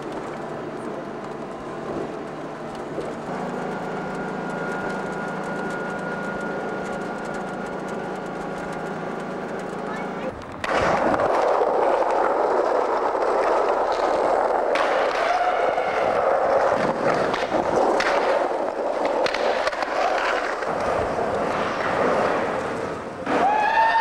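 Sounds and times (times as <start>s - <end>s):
skateboard wheels rolling on concrete: 0.0s - 24.0s.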